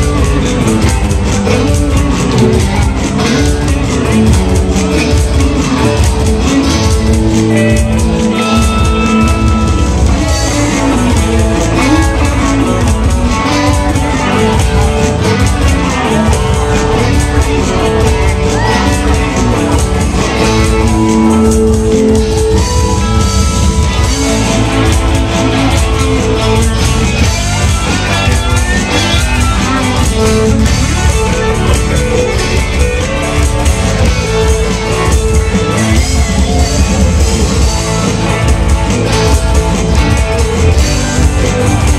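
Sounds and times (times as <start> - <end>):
electric guitar bending notes: 0.0 - 41.9
live rock band playing: 0.0 - 41.9.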